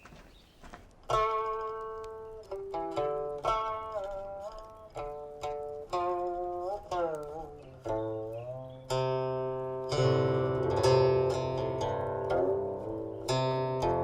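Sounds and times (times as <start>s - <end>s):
zither plucked notes and chords: 1.1s - 14.0s.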